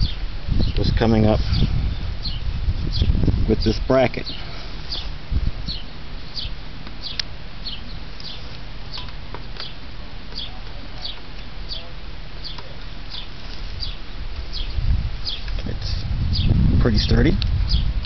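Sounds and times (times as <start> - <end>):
bird chirping: 0.0 - 0.9, 1.5 - 16.6, 17.6 - 17.9
low steady rumble: 0.0 - 18.0.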